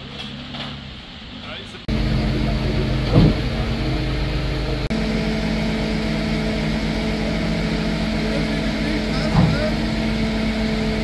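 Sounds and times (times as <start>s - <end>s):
crane engine running: 1.0s - 11.0s.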